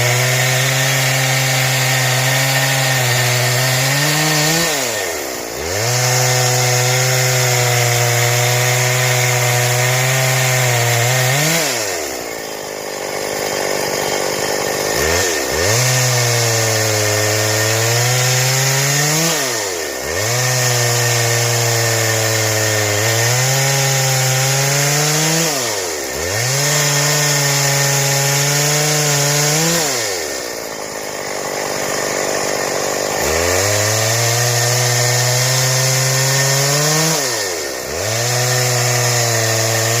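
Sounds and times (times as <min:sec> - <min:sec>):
chainsaw cutting wood: 0:00.0 - 0:40.0.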